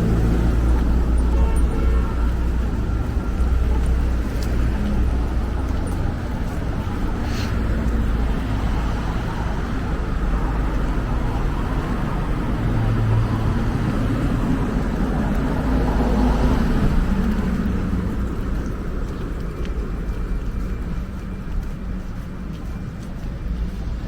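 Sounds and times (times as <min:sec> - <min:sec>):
road noise rumble: 0:00.0 - 0:24.0.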